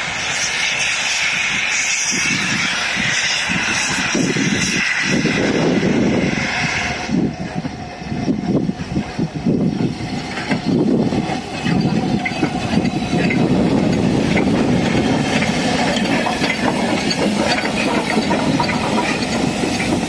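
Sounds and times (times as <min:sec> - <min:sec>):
loud hiss of steam: 0:00.0 - 0:20.0
steam locomotive exhaust chuffs: 0:00.0 - 0:20.0.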